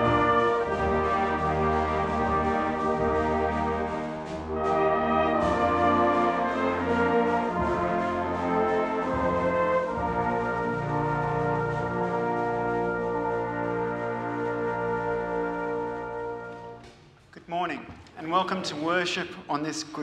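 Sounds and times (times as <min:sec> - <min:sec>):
brass playing slow chords: 0:00.0 - 0:16.8.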